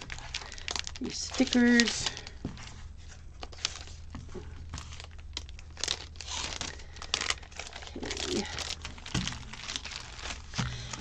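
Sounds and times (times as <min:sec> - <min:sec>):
plastic sleeve crinkling: 0:00.0 - 0:11.0.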